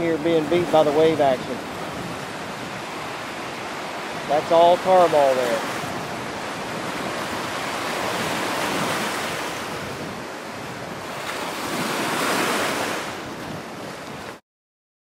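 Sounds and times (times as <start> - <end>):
small waves washing in: 0.0 - 14.4.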